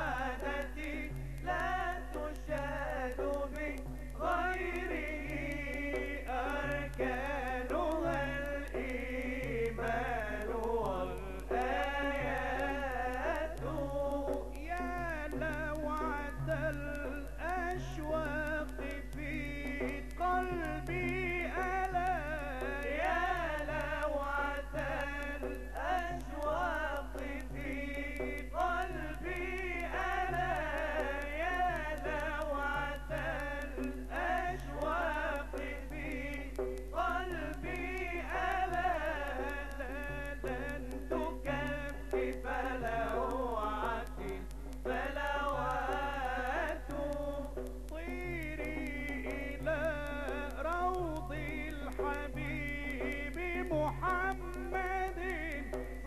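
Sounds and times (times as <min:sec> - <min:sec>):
men singing: 0:00.0 - 0:56.0.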